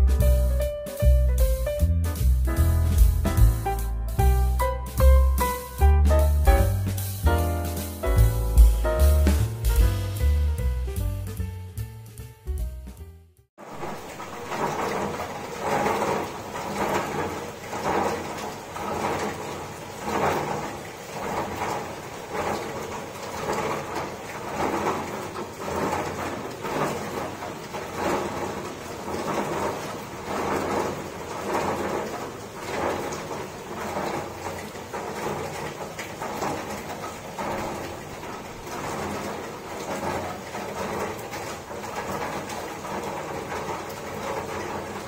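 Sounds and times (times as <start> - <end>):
rain falling: 0.0 - 13.0, 13.6 - 45.0.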